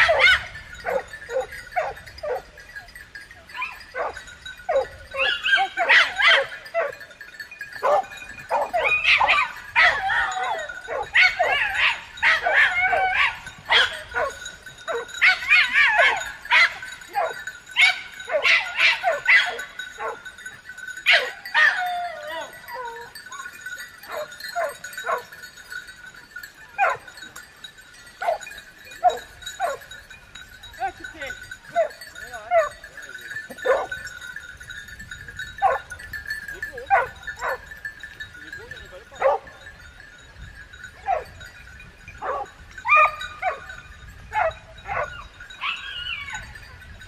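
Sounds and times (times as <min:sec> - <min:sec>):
dogs barking and yelping: 0:00.0 - 0:34.5, 0:35.5 - 0:39.8, 0:40.8 - 0:46.7.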